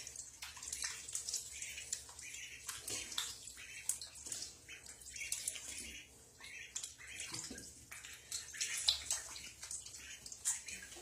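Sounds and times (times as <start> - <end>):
ducklings splashing in water: 0.0 - 11.0
ducklings peeping: 0.7 - 11.0.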